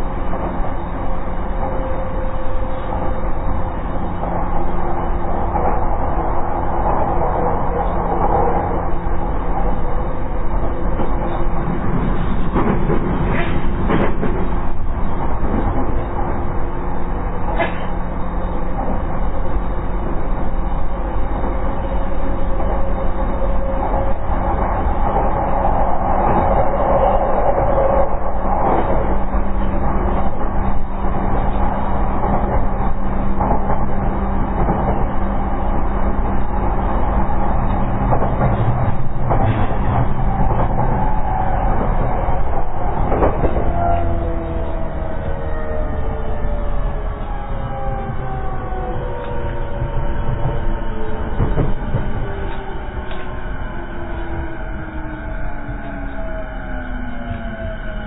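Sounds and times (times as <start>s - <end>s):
train rattles: 0.0s - 58.0s
train wheels rumbling on rail: 0.0s - 58.0s.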